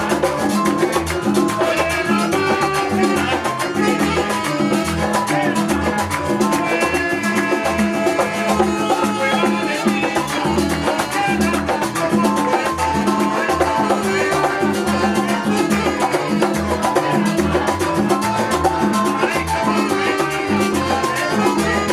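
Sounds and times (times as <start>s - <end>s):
latin dance music: 0.0s - 21.9s.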